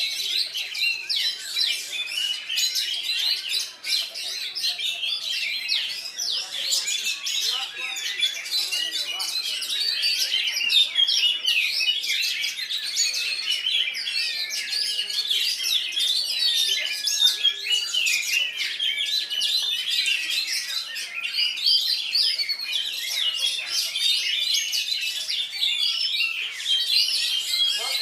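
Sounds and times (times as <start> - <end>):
birds singing chirps and trills: 0.0 - 28.0.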